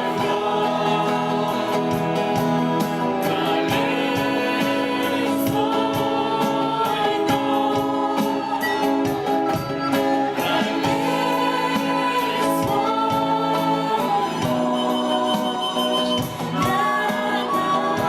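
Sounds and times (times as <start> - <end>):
band with steady beat: 0.0 - 18.0
voices singing together: 0.0 - 18.0.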